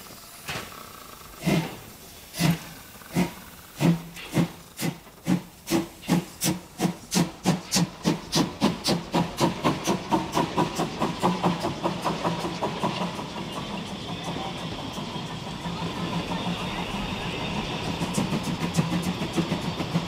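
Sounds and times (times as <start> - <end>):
steam hissing: 0.0 - 20.0
steam locomotive exhaust chuffs: 0.0 - 20.0.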